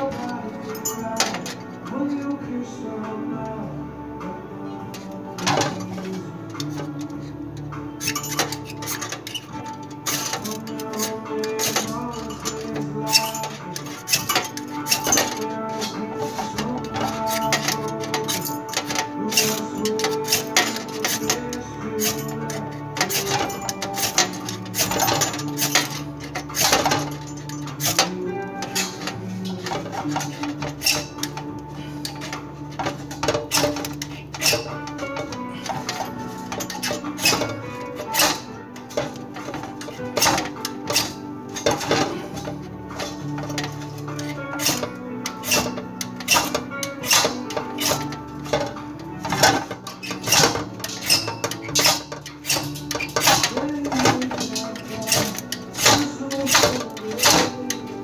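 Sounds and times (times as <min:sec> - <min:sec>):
background music with held notes: 0:00.0 - 0:58.0
tool scraping metal colander: 0:07.9 - 0:58.0.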